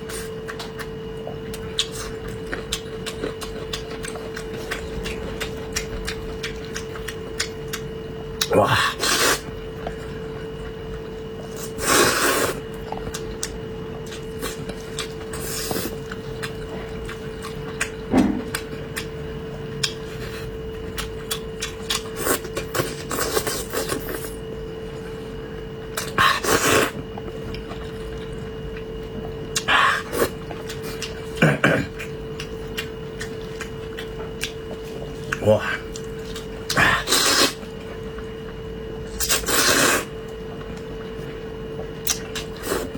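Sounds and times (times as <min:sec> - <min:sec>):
chewing and mouth noises: 0:00.0 - 0:42.9
faint electrical hum: 0:00.0 - 0:42.9.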